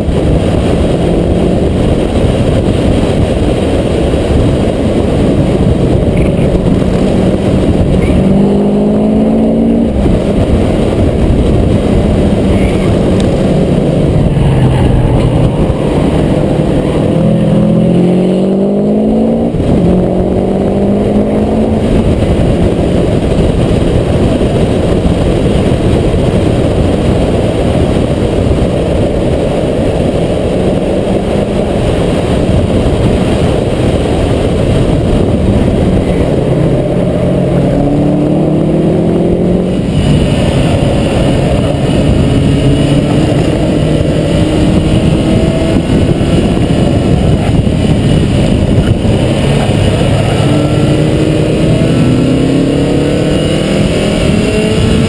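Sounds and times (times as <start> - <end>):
car engine at full throttle: 0.0 - 55.0
wind and road noise: 0.0 - 55.0.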